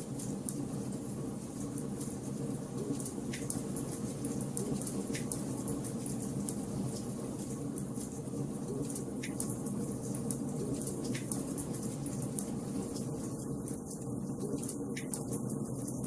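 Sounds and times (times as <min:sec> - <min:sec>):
wood fire crackling: 0:00.1 - 0:15.6.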